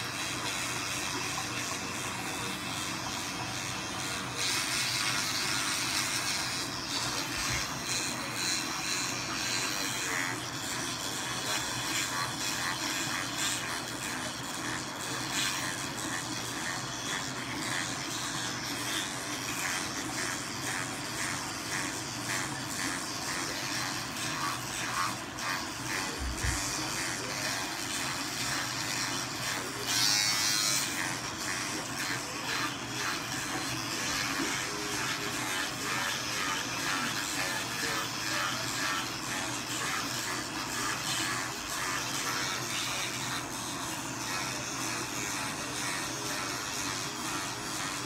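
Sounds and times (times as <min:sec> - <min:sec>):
toothbrush scrubbing teeth: 0:00.0 - 0:48.0.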